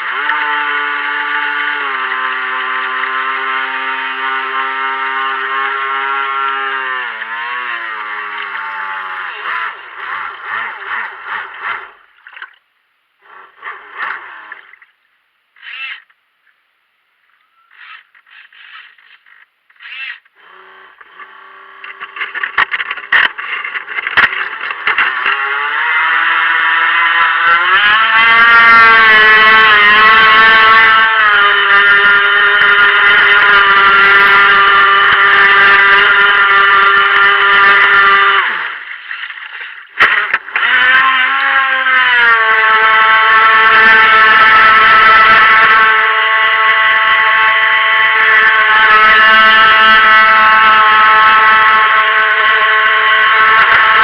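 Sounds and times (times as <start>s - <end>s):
electric motor whining: 0.0s - 12.0s, 15.6s - 16.1s, 17.7s - 54.0s.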